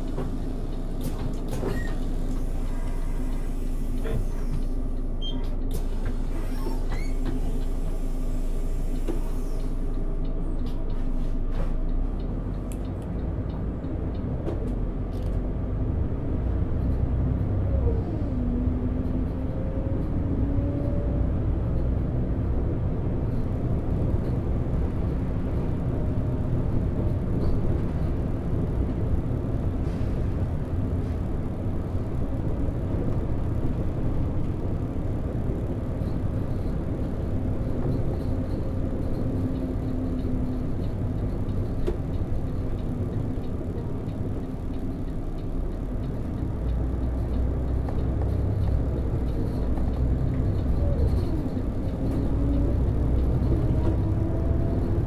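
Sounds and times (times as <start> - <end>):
diesel bus engine: 0.0 - 55.0
road noise rumble: 0.0 - 55.0.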